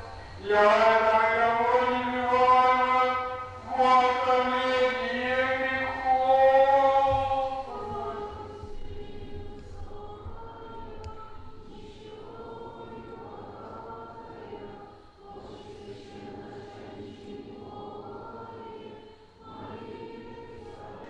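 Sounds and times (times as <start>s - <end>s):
voices singing liturgical chant: 0.0s - 21.0s.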